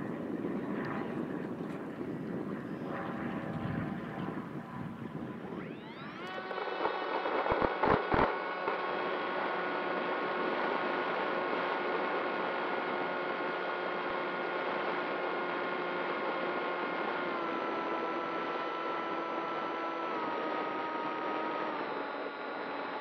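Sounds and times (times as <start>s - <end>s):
model plane motor whine: 0.0s - 23.0s.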